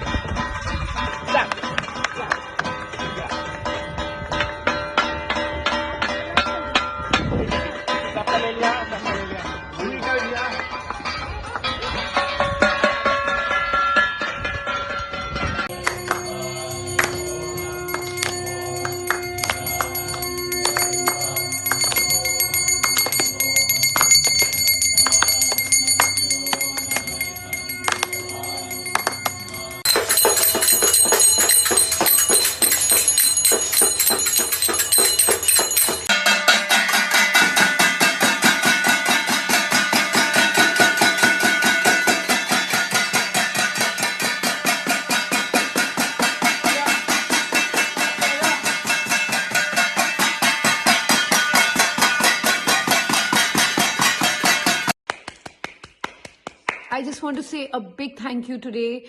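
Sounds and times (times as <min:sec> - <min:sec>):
metal bells ringing: 0:00.0 - 0:55.0.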